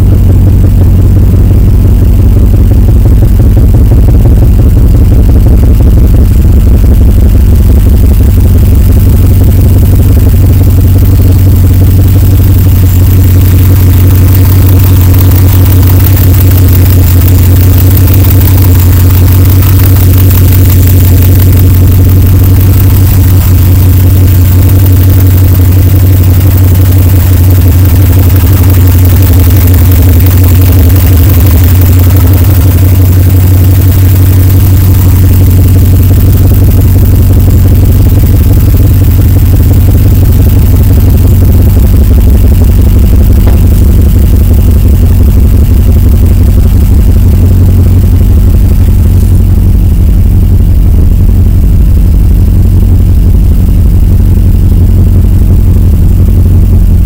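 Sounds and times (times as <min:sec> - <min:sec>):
truck engine idling: 0:00.0 - 0:55.0, 0:55.8 - 0:57.0.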